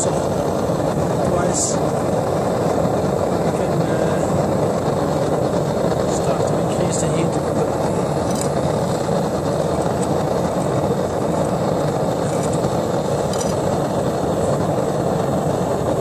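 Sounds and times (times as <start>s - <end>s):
gas forge burner flame rushing: 0.0s - 16.0s.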